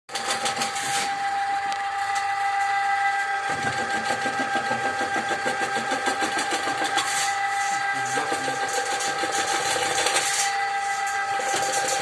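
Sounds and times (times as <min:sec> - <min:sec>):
high motor whine: 0:00.5 - 0:12.0.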